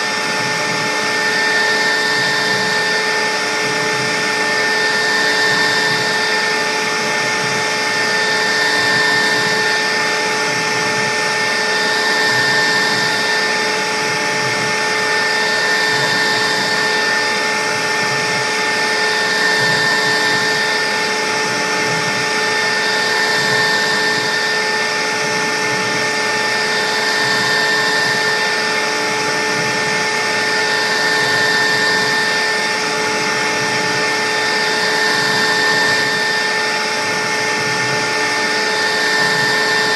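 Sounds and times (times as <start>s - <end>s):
router spindle whining while cutting: 0.0s - 39.9s.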